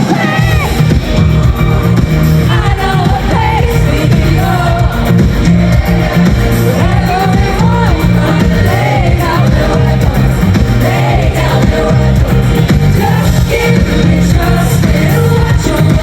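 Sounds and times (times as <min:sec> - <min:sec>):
lead singer singing: 0:00.0 - 0:16.0
live pop band playing: 0:00.0 - 0:16.0
pulsing bass: 0:00.0 - 0:16.0.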